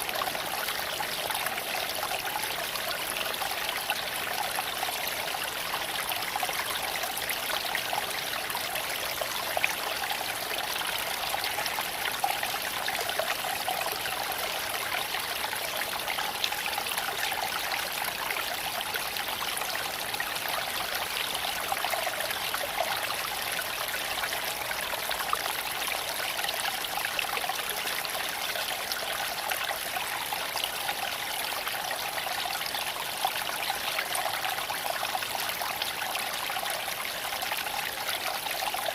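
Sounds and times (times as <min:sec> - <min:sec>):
creek water flowing over stones: 0:00.0 - 0:38.9.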